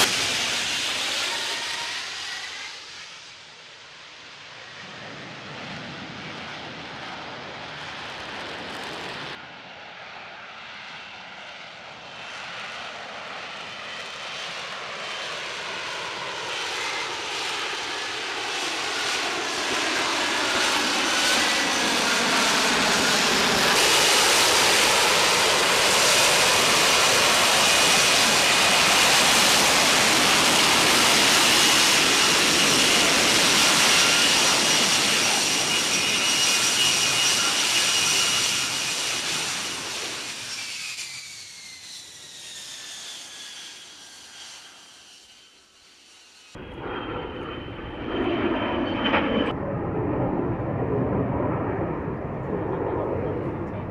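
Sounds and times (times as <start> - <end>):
jet engine roar with whine: 0.0 - 53.9.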